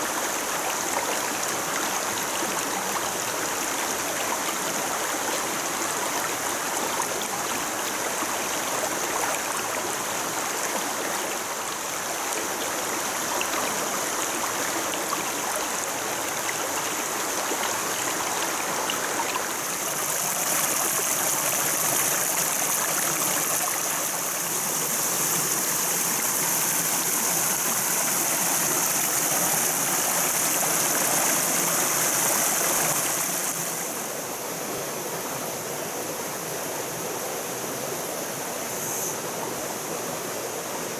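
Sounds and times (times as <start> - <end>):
stream splashing over rocks: 0.0 - 34.3.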